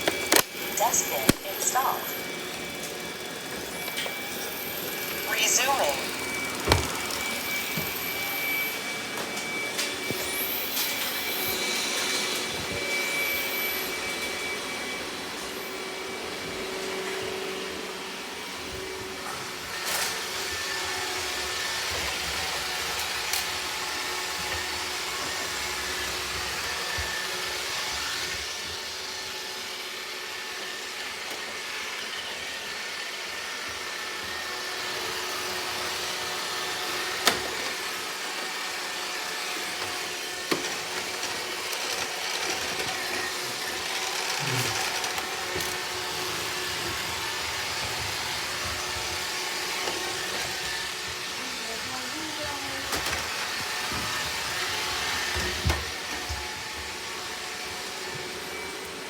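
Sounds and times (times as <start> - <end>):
robot vacuum cleaner running: 0.0 - 59.0.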